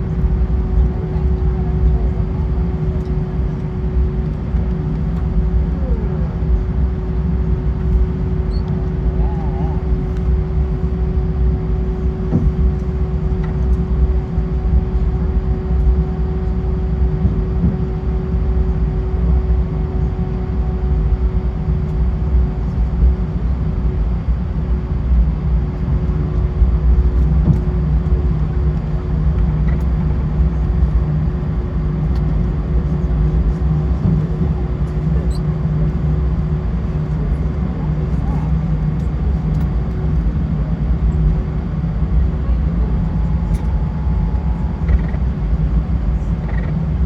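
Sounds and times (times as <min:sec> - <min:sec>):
constant cabin hum: 0:00.0 - 0:47.0
idling jet engines rumble: 0:00.0 - 0:47.0.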